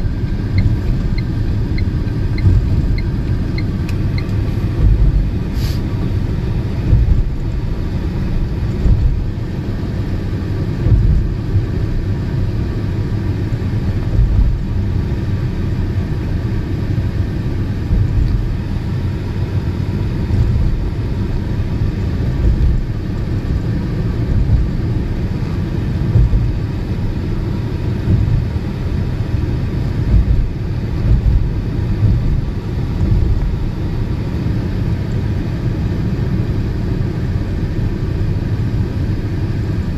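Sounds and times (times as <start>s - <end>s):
tyre and wind noise: 0.0s - 35.5s.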